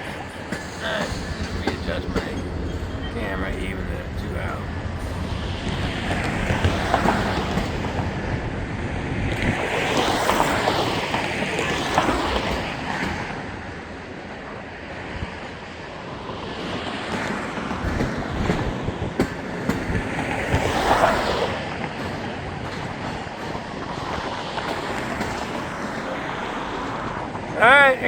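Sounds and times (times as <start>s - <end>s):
freight train rolling past: 0.0s - 28.0s.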